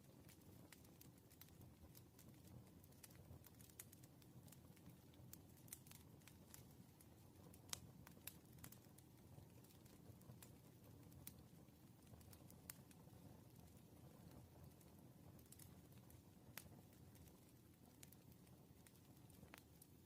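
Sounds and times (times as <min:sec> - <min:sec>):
firewood crackling and popping: 0:00.0 - 0:20.0
flames rumbling: 0:00.1 - 0:20.0.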